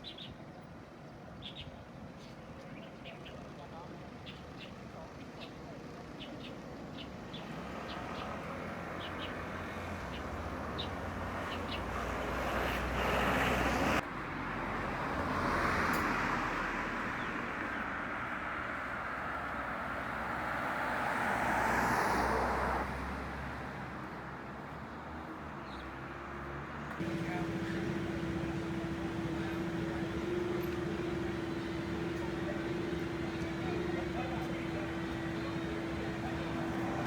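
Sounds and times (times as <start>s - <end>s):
low traffic hum: 0.0s - 37.0s
road traffic passing: 3.0s - 37.0s.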